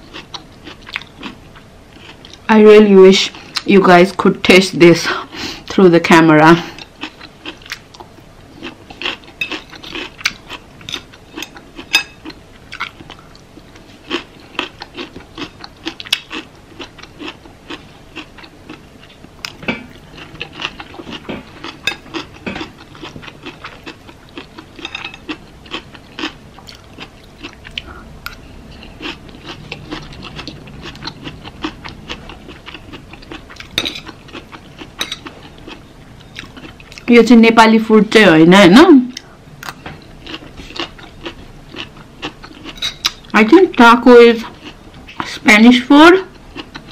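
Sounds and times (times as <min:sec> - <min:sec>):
chewing and mouth noises: 0:00.0 - 0:02.5, 0:06.7 - 0:37.1, 0:39.1 - 0:43.3, 0:46.3 - 0:46.9.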